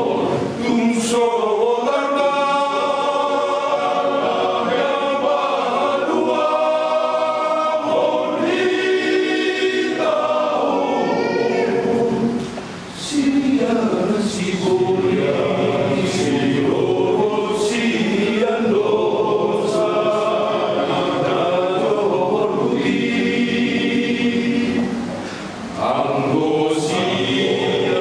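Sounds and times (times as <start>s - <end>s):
men's choir singing: 0.0s - 28.0s.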